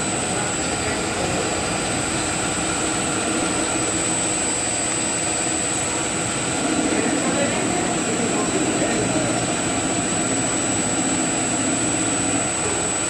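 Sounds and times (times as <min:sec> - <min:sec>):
high-pitched whine: 0:00.0 - 0:13.0
machining noise: 0:00.0 - 0:13.0.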